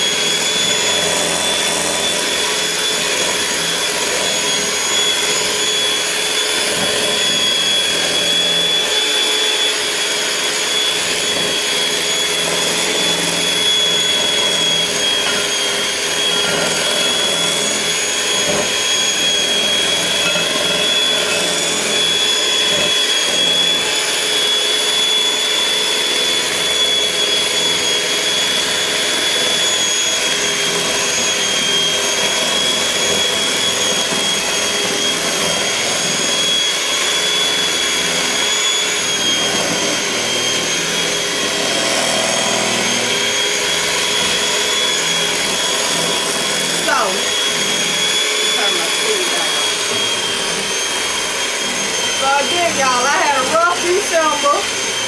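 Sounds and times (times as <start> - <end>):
electric mixer whining: 0.0 - 55.0.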